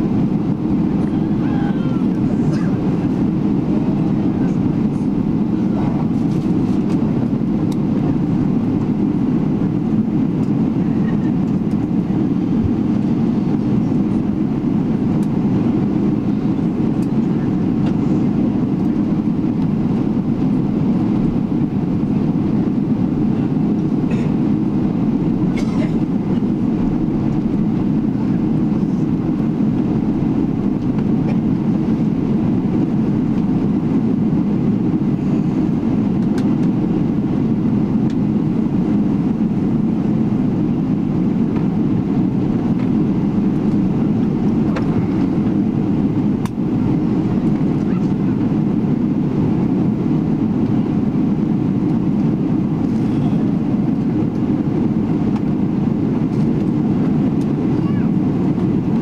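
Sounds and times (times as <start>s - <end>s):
aircraft engines rumbling: 0.0s - 59.0s.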